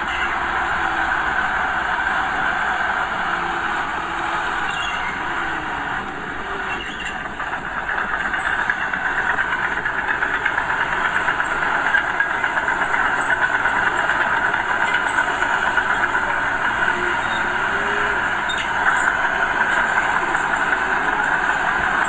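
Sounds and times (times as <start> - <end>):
diesel engine knocking rumble: 0.0 - 22.0.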